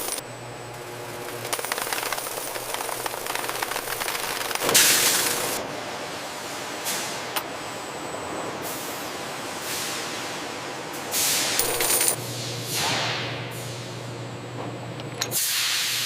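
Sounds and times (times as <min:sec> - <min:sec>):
factory machinery hum: 0:00.0 - 0:16.0.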